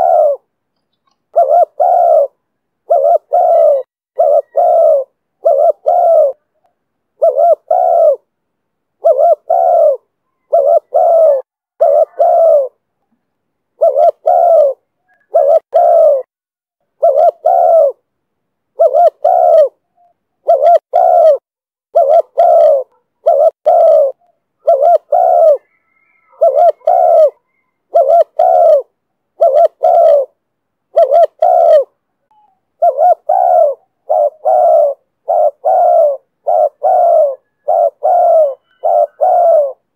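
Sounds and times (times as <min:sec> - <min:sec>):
dove cooing: 0:00.0 - 0:06.6, 0:07.2 - 0:08.3, 0:09.0 - 0:12.8, 0:13.8 - 0:16.3, 0:17.0 - 0:18.0, 0:18.7 - 0:39.9.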